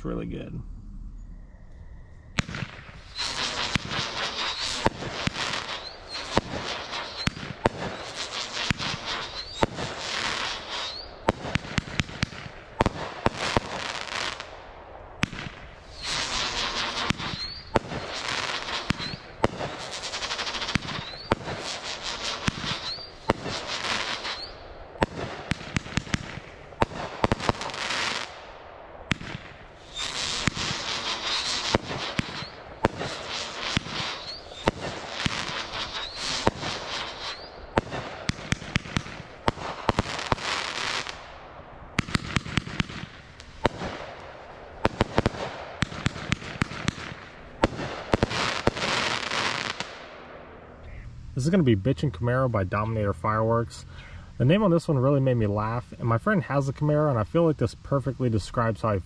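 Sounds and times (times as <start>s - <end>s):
firework hissing: 0.8s - 51.6s
firework bangs: 2.3s - 51.6s.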